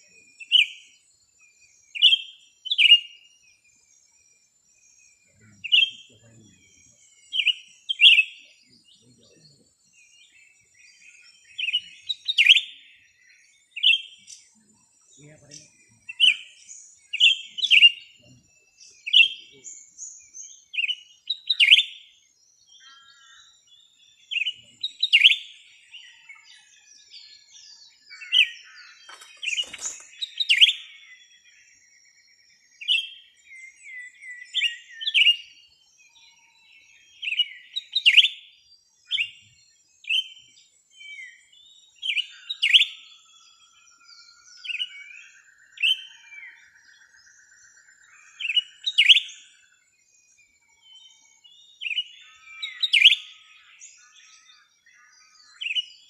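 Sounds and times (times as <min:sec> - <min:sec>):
faint birds twittering: 0:00.0 - 0:56.0
small birds chirping: 0:00.0 - 0:56.0.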